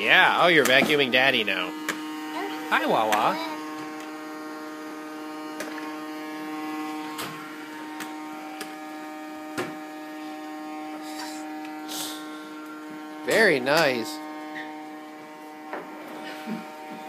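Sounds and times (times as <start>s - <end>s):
toy vacuum motor humming: 0.0s - 17.0s.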